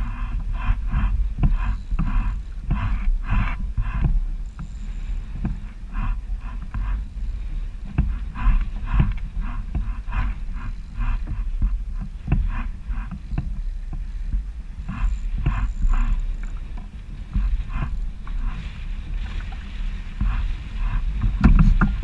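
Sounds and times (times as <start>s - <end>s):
waves splashing against kayak hull: 0.0s - 22.0s
wind buffeting microphone: 0.0s - 22.0s.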